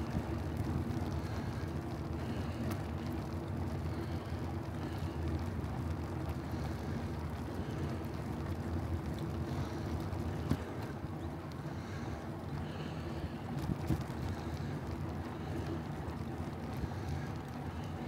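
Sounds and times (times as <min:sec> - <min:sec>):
bicycle rolling: 0:00.0 - 0:18.0.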